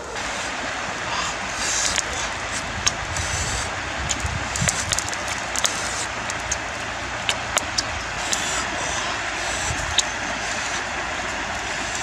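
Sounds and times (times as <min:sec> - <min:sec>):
fish sizzling over embers: 0:00.2 - 0:12.0.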